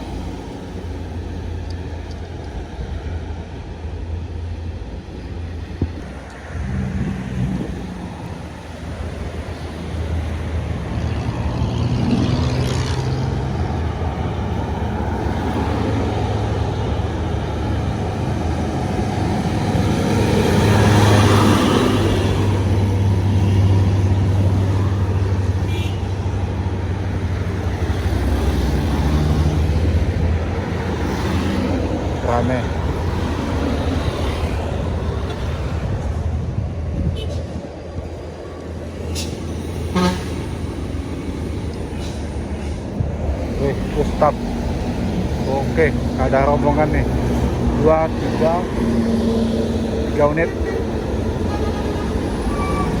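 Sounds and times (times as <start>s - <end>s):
heavy diesel trucks passing: 0.0s - 53.0s.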